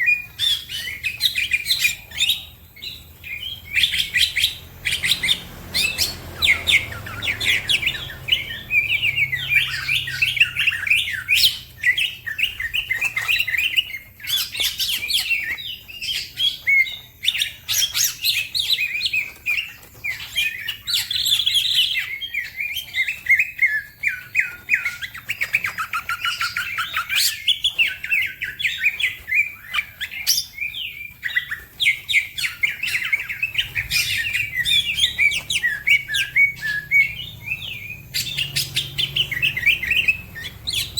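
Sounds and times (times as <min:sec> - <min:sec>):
bird singing chirps and trills: 0:00.0 - 0:40.9.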